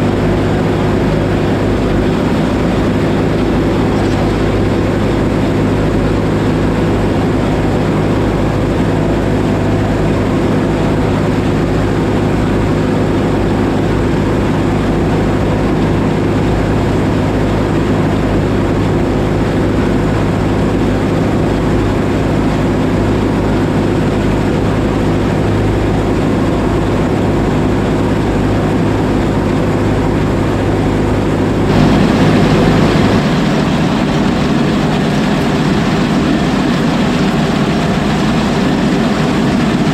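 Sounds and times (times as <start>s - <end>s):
combine harvester humming: 0.0s - 39.9s.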